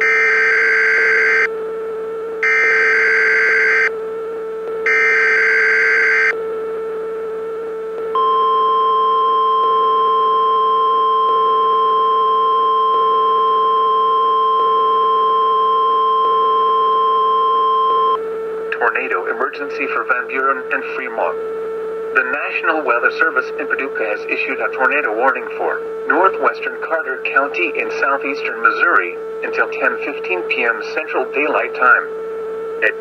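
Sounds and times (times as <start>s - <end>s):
constant hum: 0.0s - 33.0s
long steady alarm tone: 0.0s - 33.0s.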